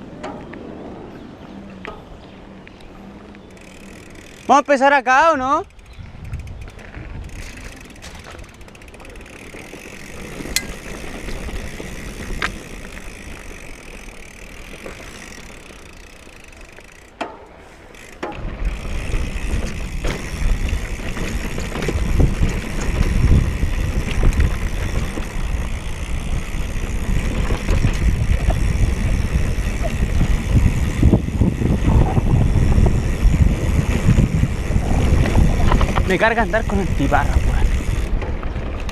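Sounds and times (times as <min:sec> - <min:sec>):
bike clicks and rattles: 0:00.0 - 0:38.9
mountain bike on dirt trail: 0:00.0 - 0:38.9.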